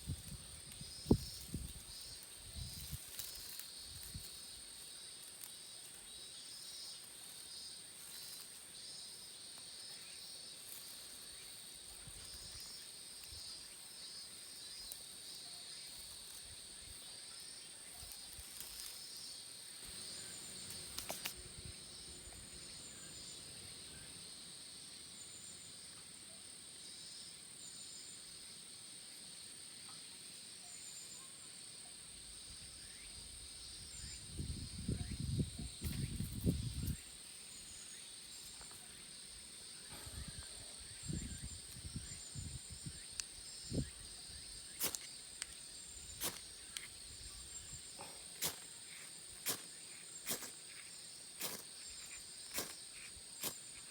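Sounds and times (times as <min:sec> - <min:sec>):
high steady insect trill: 0:00.0 - 0:53.9
pulsing insect song: 0:00.0 - 0:53.9.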